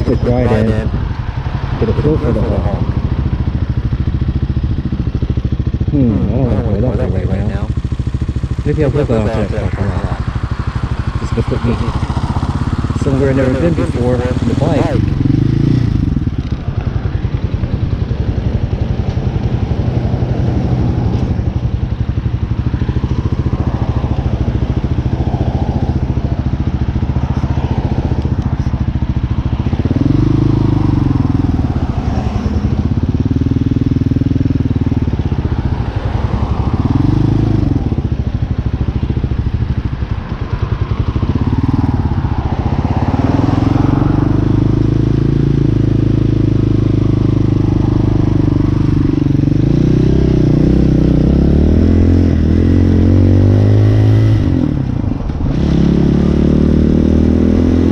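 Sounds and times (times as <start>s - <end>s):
dirt bike engine revving: 0.0s - 21.7s, 22.6s - 38.2s, 38.8s - 57.9s.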